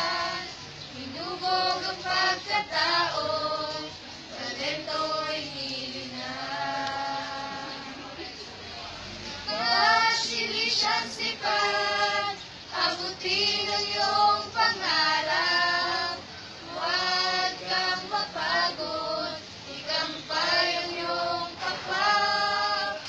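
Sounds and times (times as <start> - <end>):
choir singing a hymn: 0.0 - 8.4, 9.2 - 23.0.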